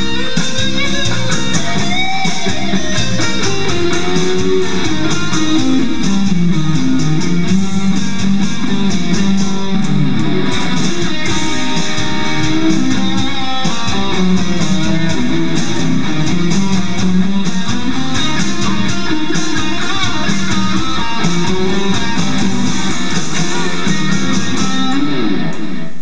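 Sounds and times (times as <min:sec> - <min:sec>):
backing track with bass: 0:00.0 - 0:26.0
electric guitar blues lead: 0:00.0 - 0:26.0.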